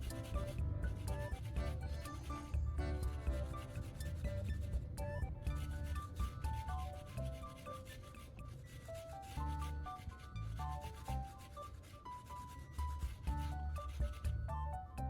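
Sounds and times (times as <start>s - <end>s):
toothbrush scrubbing rubber: 0.0s - 14.5s
background music: 0.0s - 15.0s.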